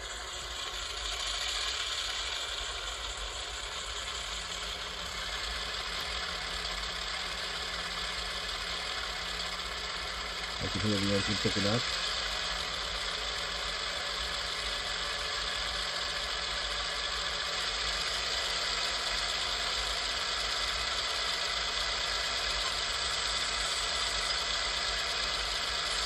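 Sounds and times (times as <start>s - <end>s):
diesel locomotive engine sound: 0.0s - 26.0s.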